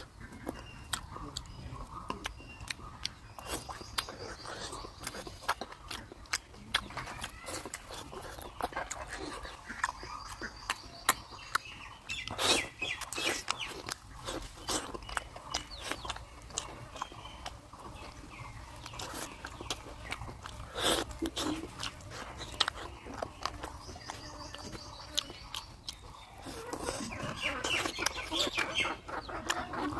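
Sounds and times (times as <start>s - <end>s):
chewing with mouth clicks: 0.0s - 29.9s.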